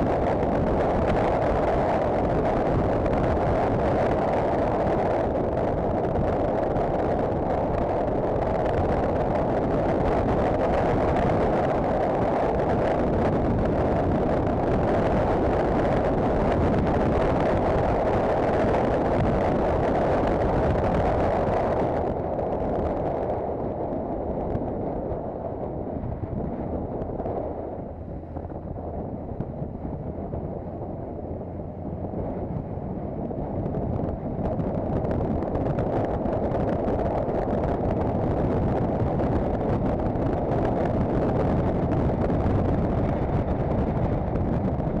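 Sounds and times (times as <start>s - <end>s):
motorcycle engine and road noise: 0.0s - 45.0s
wind on microphone: 0.0s - 45.0s.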